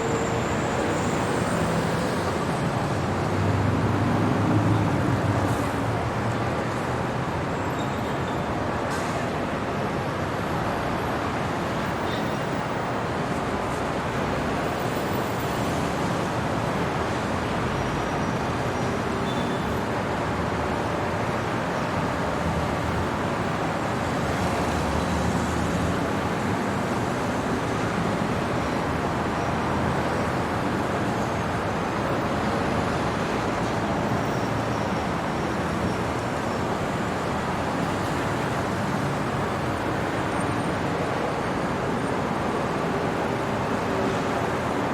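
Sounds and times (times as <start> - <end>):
city traffic noise: 0.0 - 44.9.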